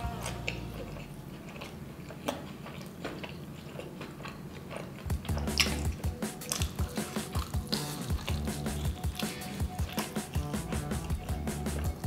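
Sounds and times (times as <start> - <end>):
chewing fried chicken: 0.0 - 12.0.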